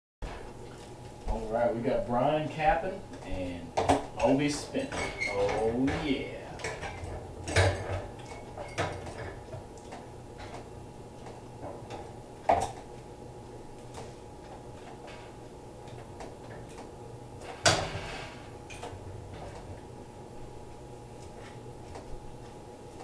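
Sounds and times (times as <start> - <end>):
steady low hum: 0.2 - 23.0.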